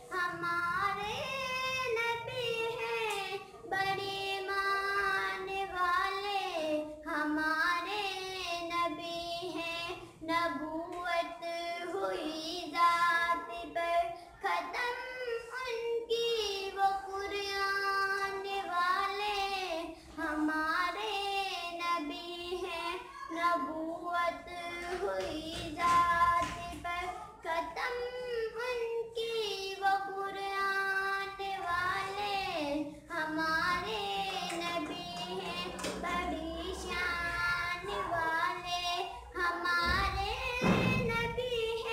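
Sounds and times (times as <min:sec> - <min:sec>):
girl singing: 0:00.0 - 0:41.9.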